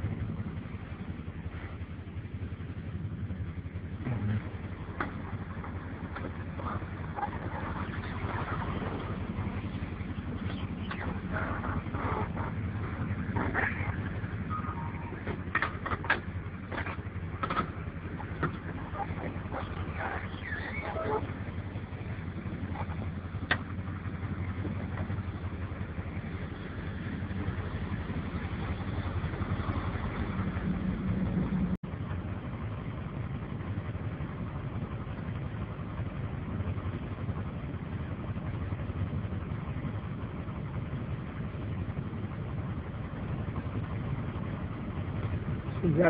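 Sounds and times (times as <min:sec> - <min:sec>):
truck engine idling: 0:00.0 - 0:46.0.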